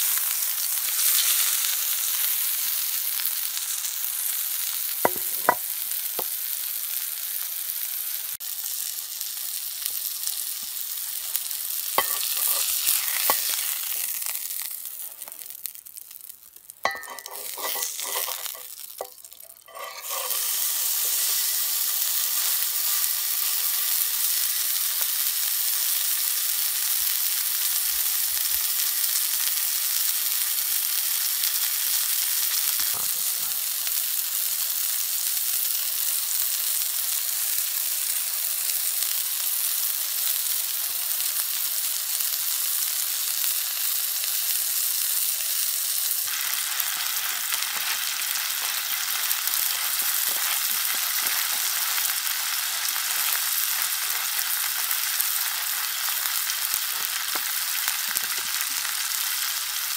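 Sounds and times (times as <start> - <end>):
patty sizzling in skillet: 0.0 - 59.9.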